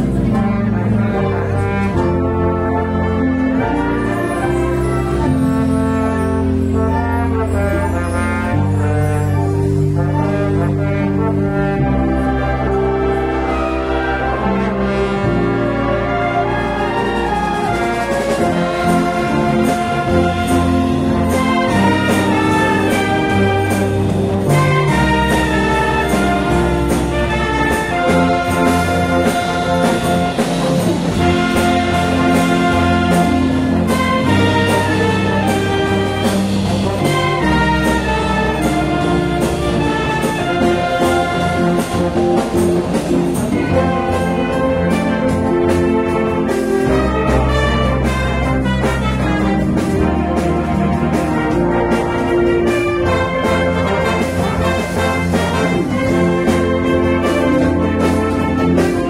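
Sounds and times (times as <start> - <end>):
wind band playing pop-rock: 0.0 - 59.0.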